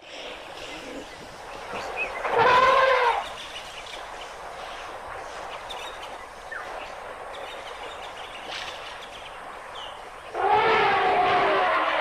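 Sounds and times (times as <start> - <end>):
wind hiss: 0.0 - 12.0.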